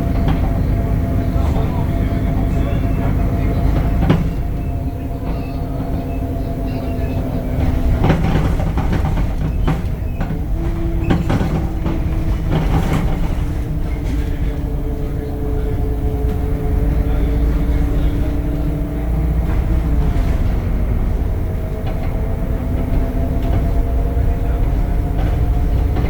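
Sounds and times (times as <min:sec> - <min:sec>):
bus engine rumble: 0:00.0 - 0:26.0
gearbox whine: 0:00.0 - 0:26.0
knocks and rattles: 0:00.0 - 0:26.0.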